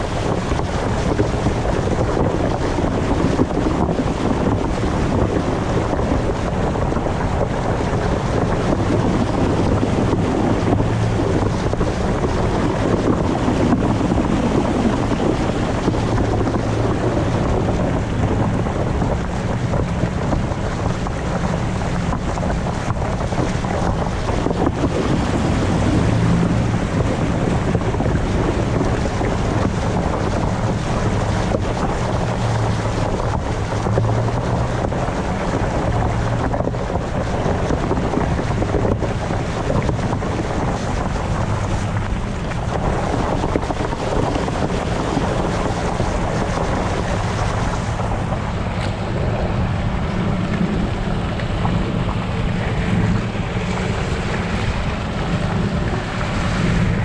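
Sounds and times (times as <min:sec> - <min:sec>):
low engine hum: 0:00.0 - 0:57.0
tyres splashing through water: 0:00.0 - 0:57.0
wind buffeting microphone: 0:00.0 - 0:57.0.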